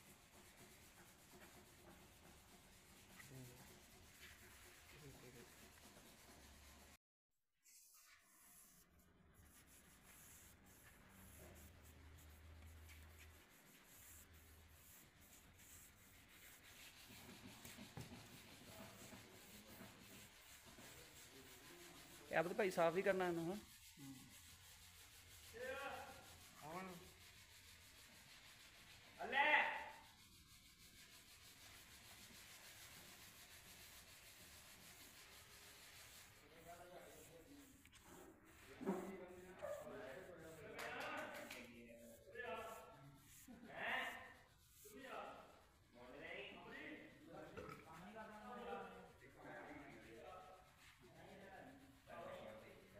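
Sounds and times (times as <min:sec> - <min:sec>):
cloth rubbing on wood: 0:00.0 - 0:07.0, 0:09.4 - 0:52.9.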